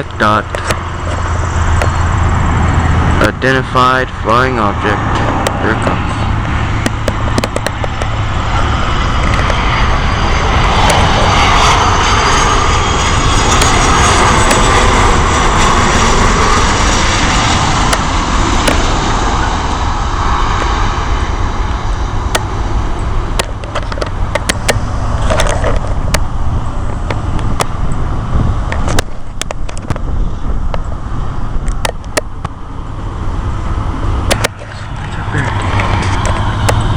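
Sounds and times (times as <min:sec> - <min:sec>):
airliner engines passing over: 0:00.0 - 0:36.9
faint gliding whine: 0:00.0 - 0:36.9.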